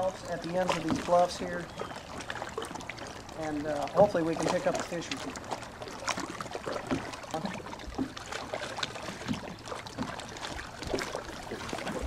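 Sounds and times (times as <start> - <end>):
light knocks and splashes: 0.0 - 12.0
small waves lapping against hull: 0.0 - 12.0.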